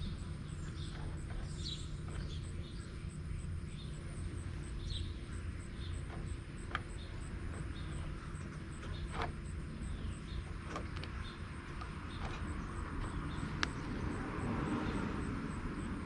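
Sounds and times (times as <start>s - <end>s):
insects chirping: 0.0s - 16.0s
steady low hum: 0.0s - 16.0s.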